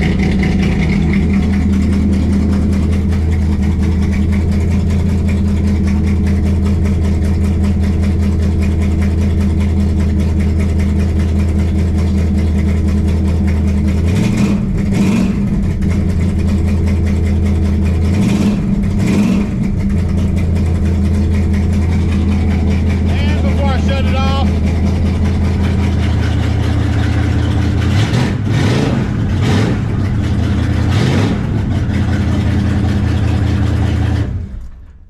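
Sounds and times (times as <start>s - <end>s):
car engine idling: 0.0s - 35.0s
engine throttle blips: 0.0s - 35.0s.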